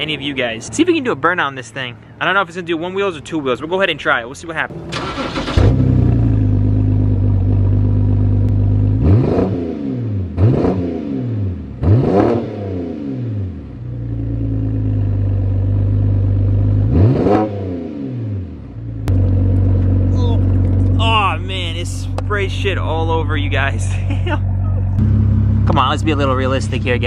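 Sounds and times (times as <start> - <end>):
car engine idling and revving: 4.6 - 27.0.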